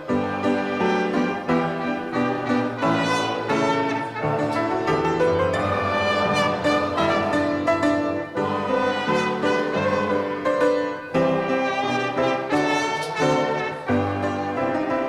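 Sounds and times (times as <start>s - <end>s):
brass instruments playing a hymn: 0.0s - 15.0s.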